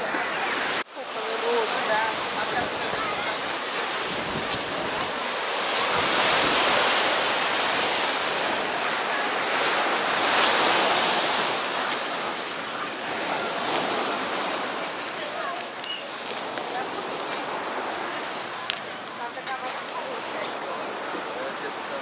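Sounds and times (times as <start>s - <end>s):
small waves washing on sand: 0.0s - 22.0s.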